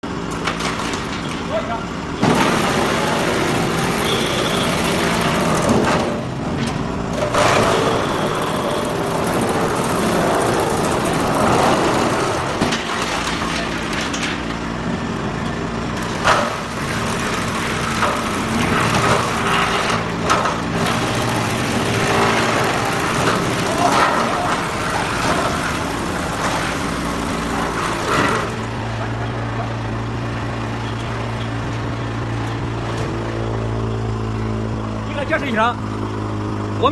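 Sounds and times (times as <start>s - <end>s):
wood chipper chipping: 0.1s - 36.9s.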